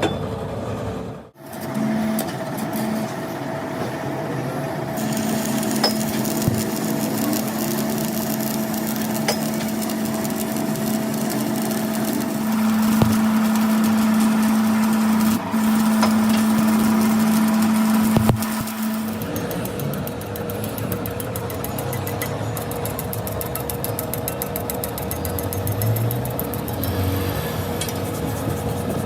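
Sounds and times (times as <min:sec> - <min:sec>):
machinery humming: 0:00.5 - 0:29.0.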